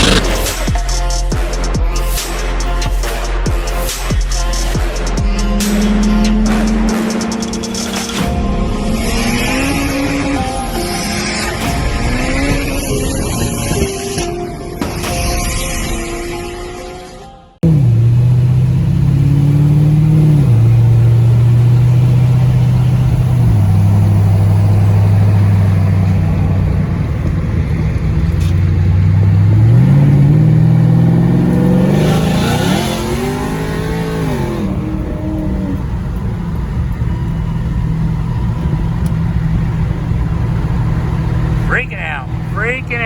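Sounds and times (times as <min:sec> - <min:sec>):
car engine running loudly: 0:00.0 - 0:14.2, 0:16.4 - 0:43.0.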